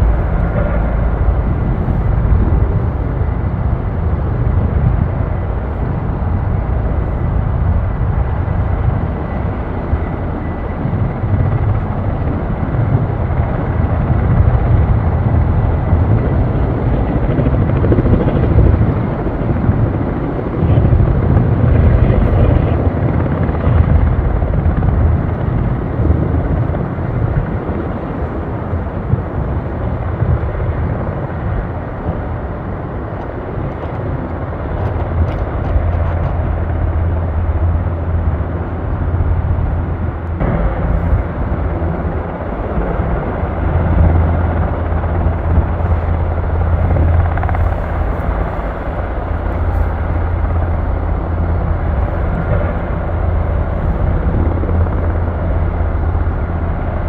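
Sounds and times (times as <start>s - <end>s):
helicopter rotors beating: 0.0s - 57.0s.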